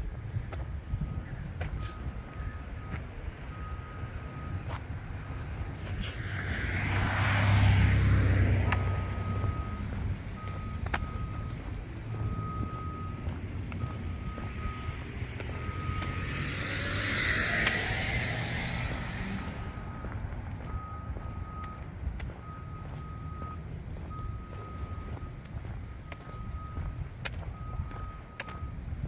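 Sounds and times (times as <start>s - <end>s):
passing traffic: 0.0s - 29.0s
reversing alarm beeping: 1.0s - 29.0s.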